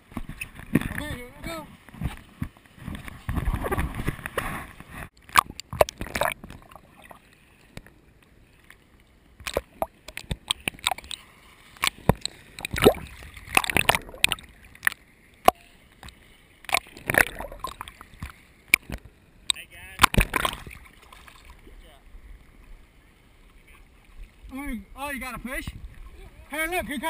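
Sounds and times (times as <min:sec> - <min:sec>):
seawater sloshing and splashing: 0:00.0 - 0:19.2, 0:19.9 - 0:24.6.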